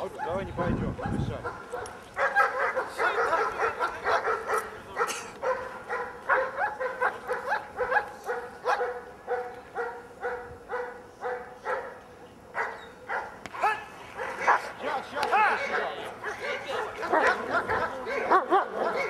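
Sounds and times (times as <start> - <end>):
dog barking: 0.2 - 12.0, 12.6 - 19.0.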